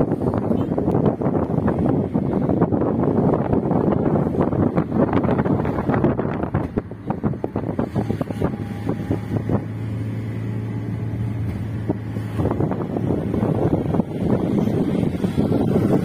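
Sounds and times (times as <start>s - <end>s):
car engine hum: 0.0s - 16.0s
wind buffeting microphone: 0.0s - 16.0s.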